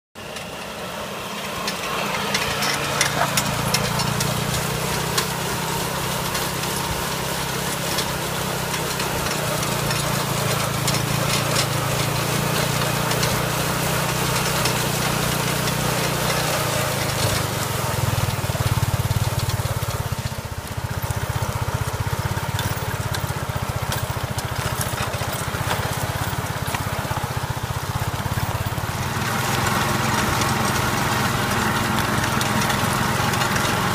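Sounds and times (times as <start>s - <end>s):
motor tricycle engine running: 0.2s - 33.9s.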